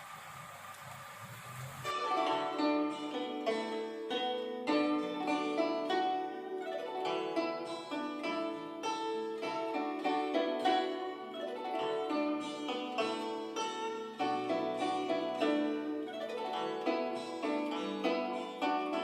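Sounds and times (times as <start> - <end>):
plucked zither melody: 1.8 - 19.0.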